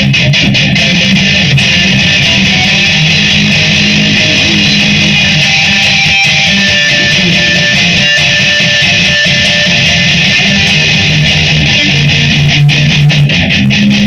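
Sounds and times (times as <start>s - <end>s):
electric guitar playing: 0.0s - 14.0s.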